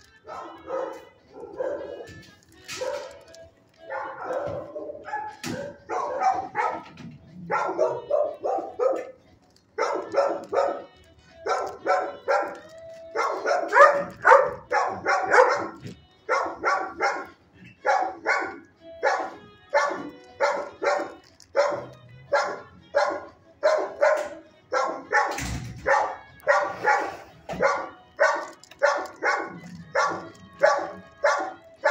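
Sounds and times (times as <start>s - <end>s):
dogs barking: 0.0s - 31.9s.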